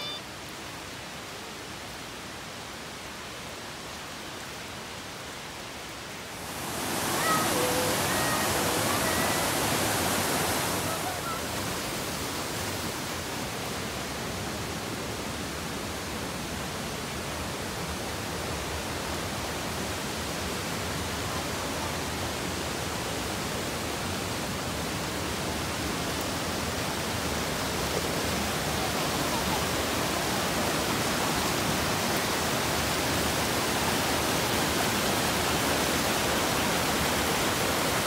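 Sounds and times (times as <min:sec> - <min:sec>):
stream rushing over boulders: 0:00.0 - 0:38.0.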